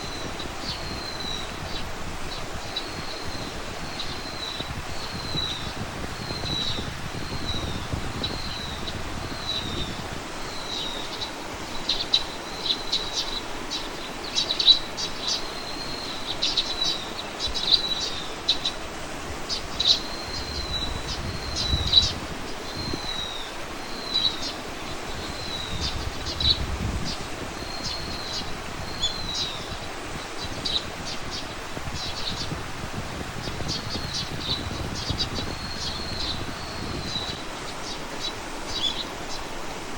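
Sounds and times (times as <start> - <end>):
small birds chirping: 0.0 - 39.9
steady outdoor hiss: 0.0 - 39.9.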